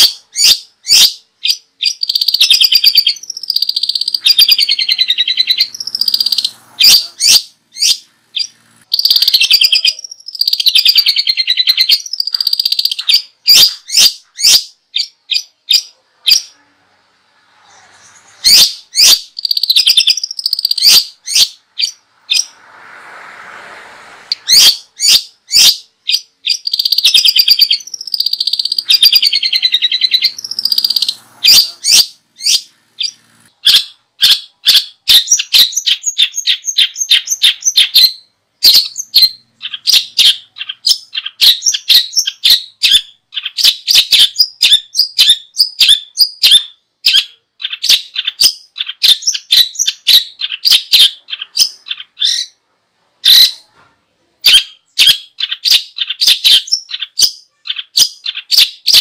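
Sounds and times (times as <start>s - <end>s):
small songbird singing: 0.0s - 22.6s, 24.3s - 52.6s, 54.4s - 59.0s.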